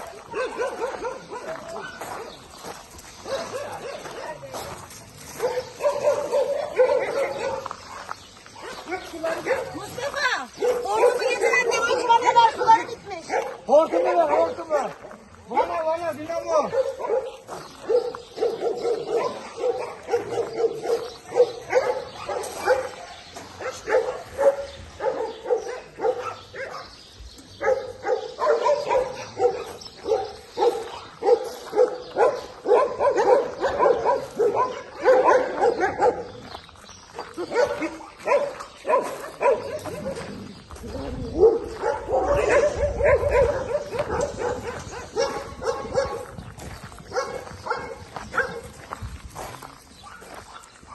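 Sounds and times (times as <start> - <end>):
dogs barking and yipping: 0.0 - 50.9.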